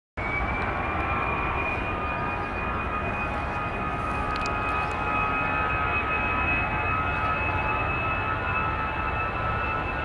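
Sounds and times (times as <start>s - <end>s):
jet engines whining: 0.2s - 10.0s.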